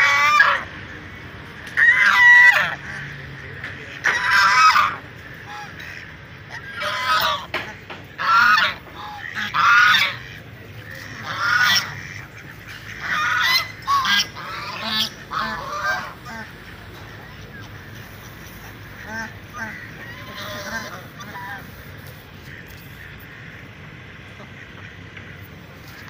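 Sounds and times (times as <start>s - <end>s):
ducks and geese honking: 0.0s - 26.0s.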